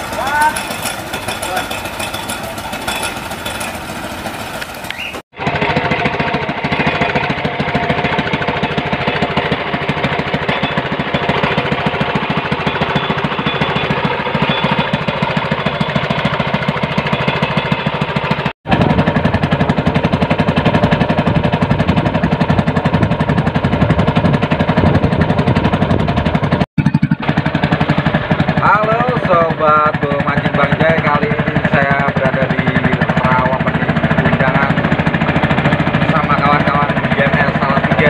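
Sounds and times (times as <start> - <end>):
small engine chugging: 0.0 - 38.0.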